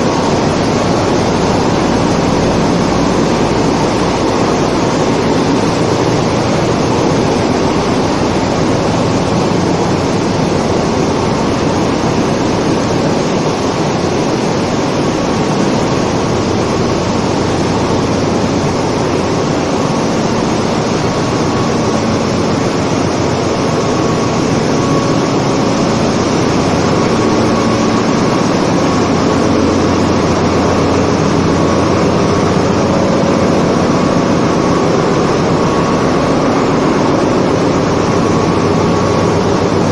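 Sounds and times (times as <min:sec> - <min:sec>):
faint hums and whines: 0:00.0 - 0:39.9
machinery running: 0:00.0 - 0:39.9.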